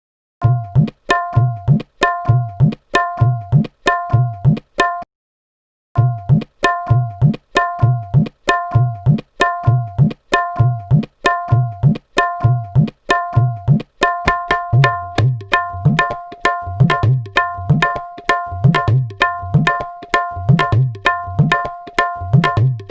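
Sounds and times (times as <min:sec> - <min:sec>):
tabla playing a rhythm: 0:00.4 - 0:05.1, 0:06.0 - 0:22.9.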